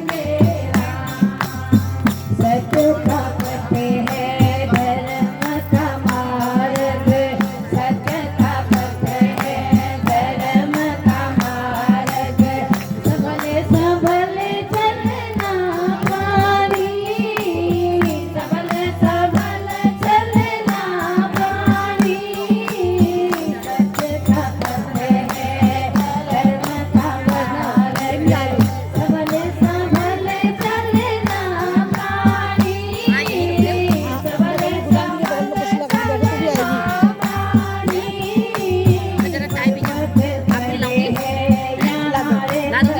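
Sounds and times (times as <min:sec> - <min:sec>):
rhythmic percussion: 0:00.0 - 0:42.9
woman singing devotional song: 0:00.0 - 0:42.9.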